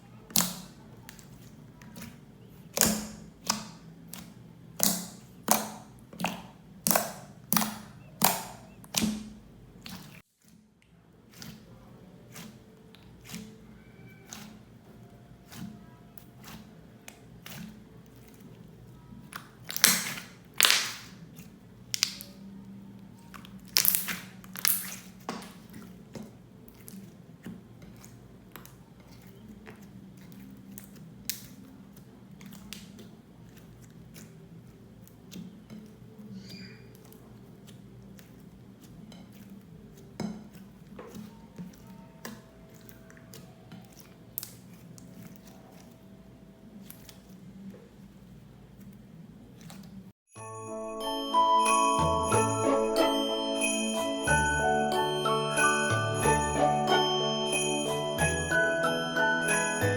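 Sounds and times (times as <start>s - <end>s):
slime squished by hand: 0.3s - 10.6s, 11.2s - 50.1s.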